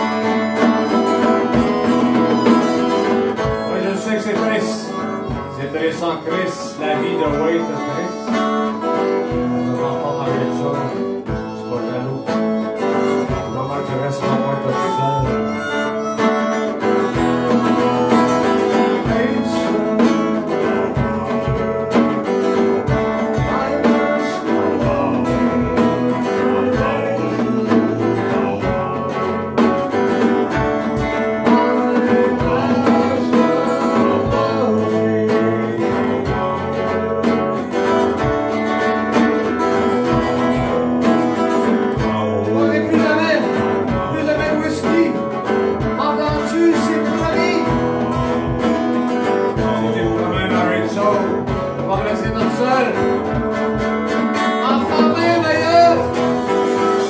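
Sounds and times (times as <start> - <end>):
drum kit: 0.0 - 57.0
harmonica: 0.0 - 57.0
person singing: 0.0 - 57.0
strummed acoustic guitar: 0.0 - 57.0.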